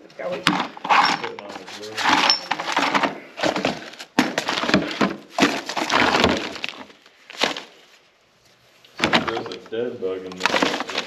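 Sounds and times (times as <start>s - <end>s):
papers and plastic bags rustling: 0.0s - 11.0s.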